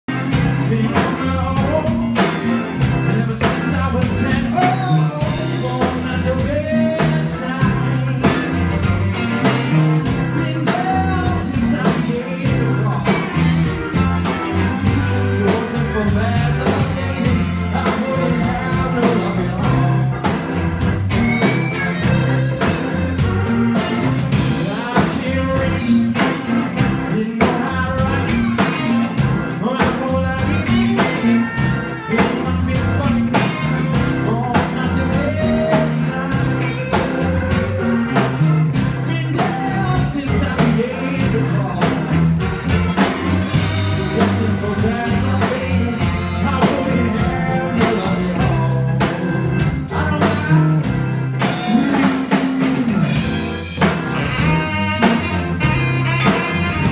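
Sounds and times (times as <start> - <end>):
drum kit: 0.0 - 56.9
electric bass: 0.0 - 56.9
electric guitar: 0.1 - 56.9
organ: 0.1 - 56.9
saxophone: 0.1 - 56.9.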